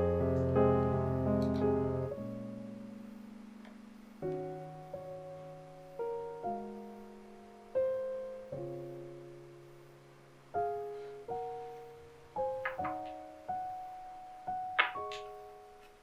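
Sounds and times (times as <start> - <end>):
slow solo piano music: 0.0 - 16.0.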